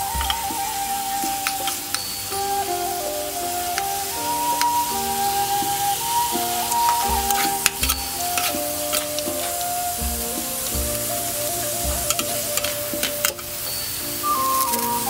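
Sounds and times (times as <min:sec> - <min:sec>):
background music with simple melody: 0:00.0 - 0:15.0
sauce bubbling and sizzling in wok: 0:01.5 - 0:15.0.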